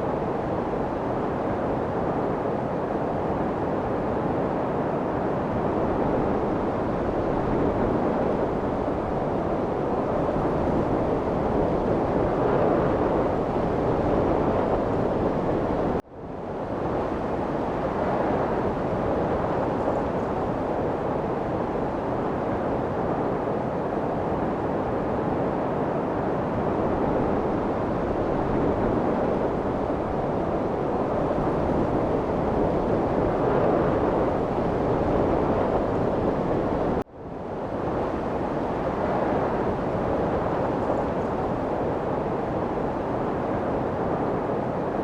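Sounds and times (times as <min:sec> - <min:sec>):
steady wind rushing: 0:00.0 - 0:45.0.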